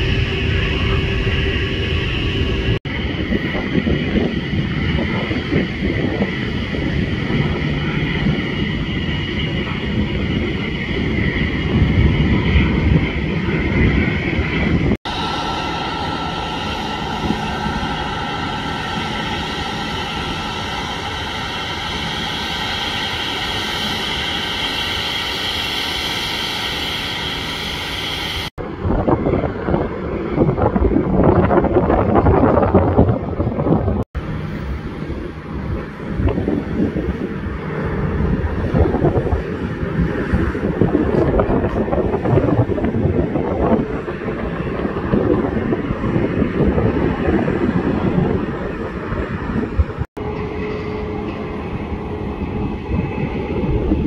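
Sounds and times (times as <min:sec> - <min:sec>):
jet engine rumble: 0:00.0 - 0:54.0
jet engine whine: 0:00.0 - 0:54.0
wind buffeting microphone: 0:00.0 - 0:54.0.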